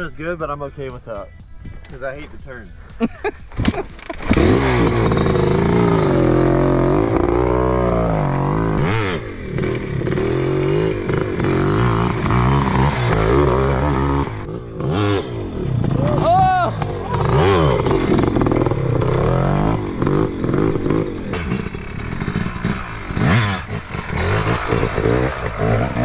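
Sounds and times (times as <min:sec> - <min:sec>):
dirt bike engine revving: 0:03.8 - 0:26.0.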